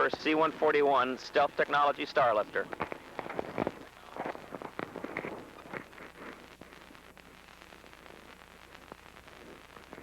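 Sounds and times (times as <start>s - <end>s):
recording hiss and hum: 0.0s - 10.0s.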